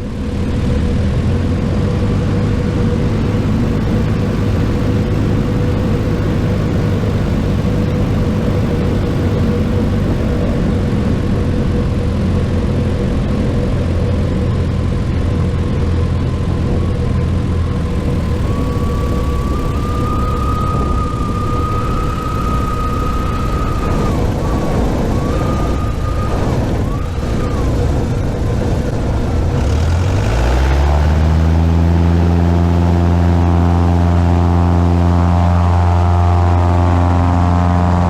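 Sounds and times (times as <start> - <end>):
airplane engine and propeller: 0.0 - 38.0.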